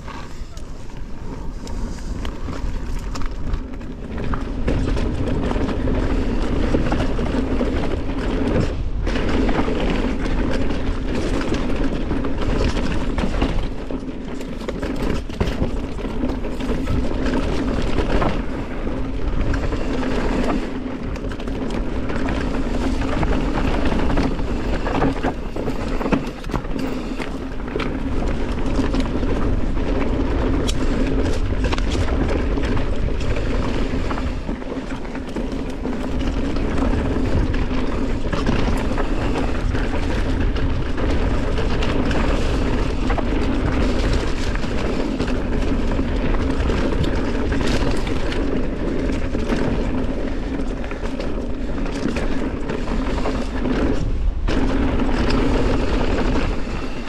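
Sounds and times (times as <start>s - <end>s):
bike knocking and rattling: 0.0s - 57.0s
bike tyres rolling on dirt: 0.0s - 57.0s
wind on microphone: 0.0s - 57.0s.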